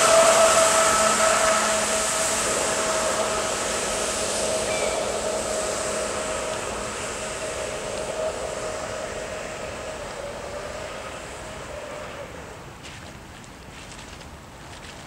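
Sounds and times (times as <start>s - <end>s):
electric motor whining: 0.0s - 12.6s
water spray hissing: 0.0s - 12.8s.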